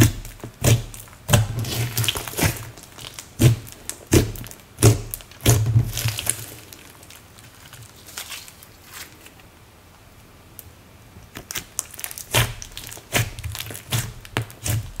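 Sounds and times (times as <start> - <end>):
slime crackling and popping: 0.0 - 8.7, 11.2 - 15.0.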